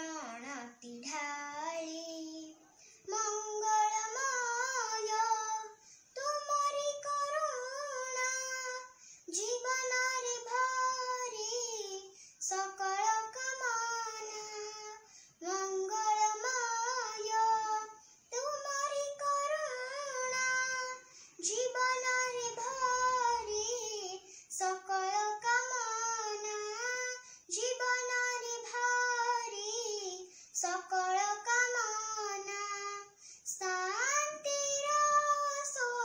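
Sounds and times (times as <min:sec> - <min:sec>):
girl singing unaccompanied: 0:00.0 - 0:36.0.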